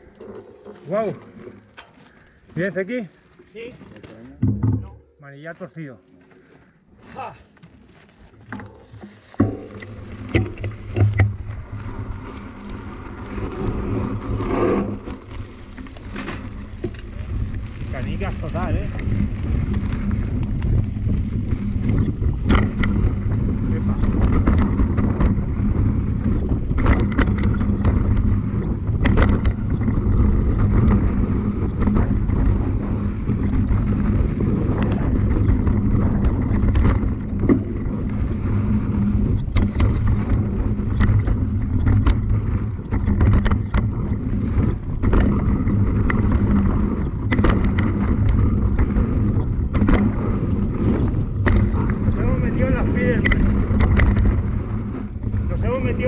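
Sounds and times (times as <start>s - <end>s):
bike rattling over rocky trail: 0.0s - 56.0s.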